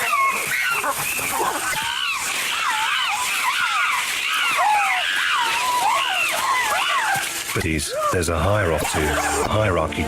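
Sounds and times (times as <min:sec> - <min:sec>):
chimpanzees calling: 0:00.0 - 0:09.7.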